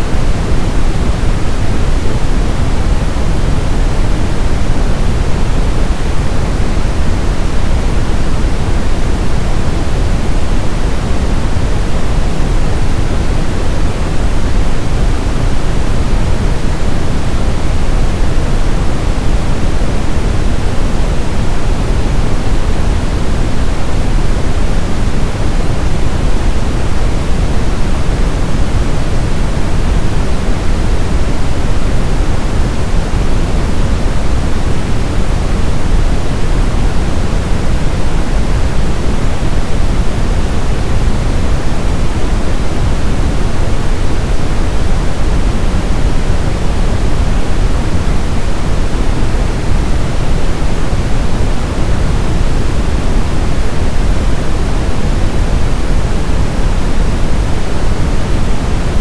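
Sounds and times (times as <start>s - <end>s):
brown noise: 0.0s - 59.0s.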